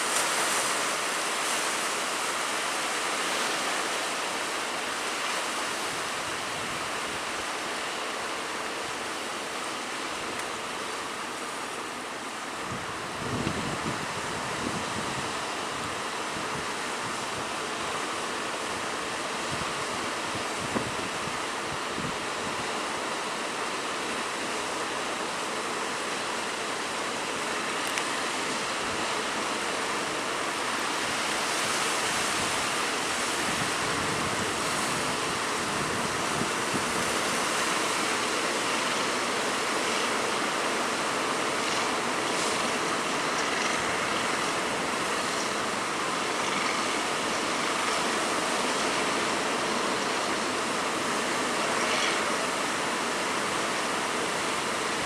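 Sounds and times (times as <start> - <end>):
rough sea waves: 0.0 - 55.0
wind: 0.0 - 55.0.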